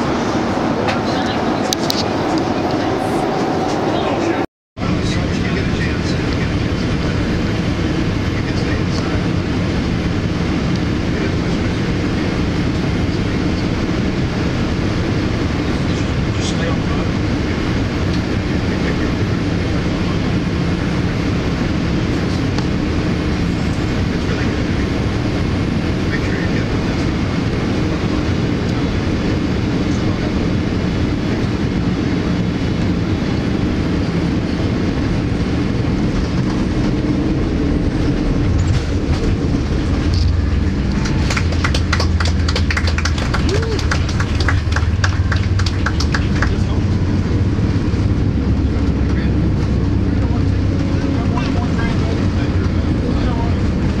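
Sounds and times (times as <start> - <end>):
airliner cabin roar: 0.0 - 54.0
airliner rumbling on runway: 0.0 - 54.0.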